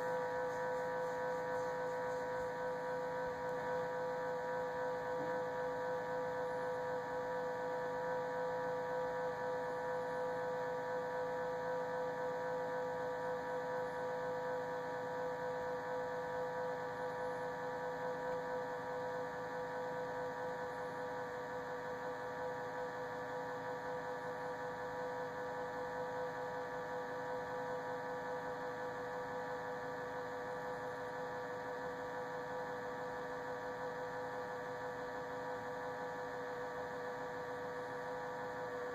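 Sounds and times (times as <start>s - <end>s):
refrigerator humming with whine: 0.0s - 38.9s.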